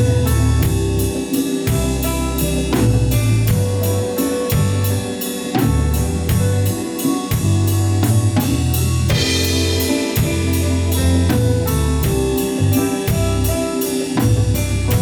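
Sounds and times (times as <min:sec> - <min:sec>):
drum kit beat: 0:00.0 - 0:15.0
pop-jazz music: 0:00.0 - 0:15.0.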